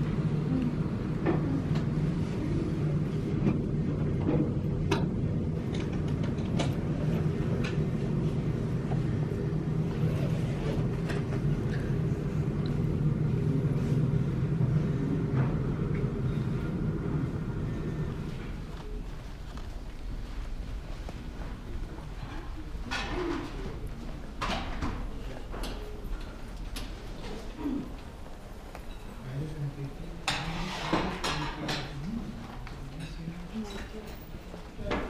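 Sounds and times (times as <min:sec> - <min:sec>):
jet engines idling: 0:00.0 - 0:28.9.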